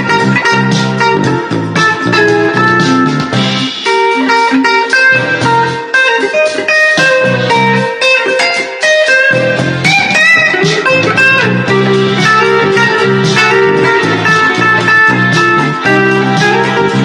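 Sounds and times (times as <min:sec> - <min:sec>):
steady bass line: 0:00.0 - 0:04.2, 0:05.0 - 0:05.9, 0:07.0 - 0:08.0, 0:09.2 - 0:17.0
electric guitar blues playing: 0:00.0 - 0:17.0.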